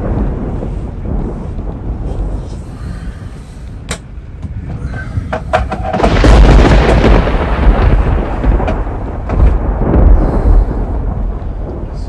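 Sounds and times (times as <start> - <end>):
thunder rumbling: 0.0 - 12.0.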